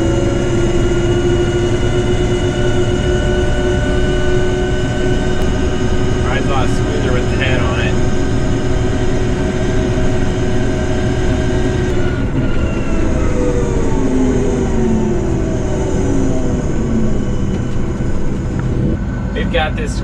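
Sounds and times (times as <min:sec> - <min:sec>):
combine harvester humming: 0:00.0 - 0:20.0.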